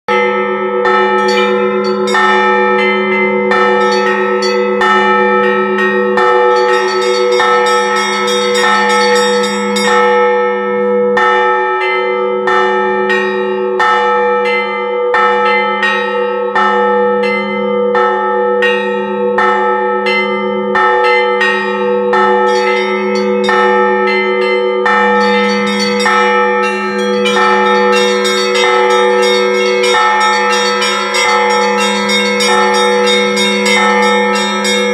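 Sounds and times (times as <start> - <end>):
larger bells low ringing: 0.1 - 34.9
smaller church bells struck: 0.1 - 34.9.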